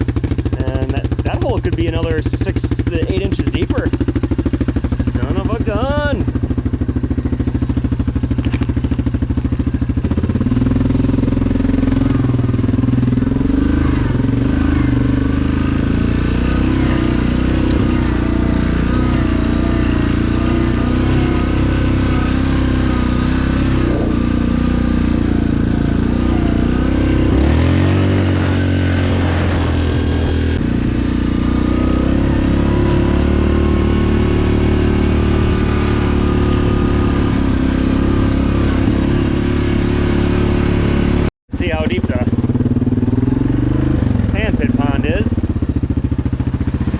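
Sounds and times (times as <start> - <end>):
vehicle engine under load: 0.0 - 46.9.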